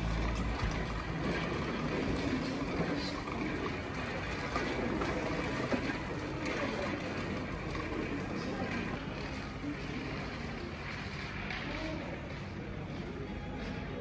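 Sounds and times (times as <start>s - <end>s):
shopping trolley rolling on tiles: 0.0s - 14.0s
supermarket noise: 0.0s - 14.0s.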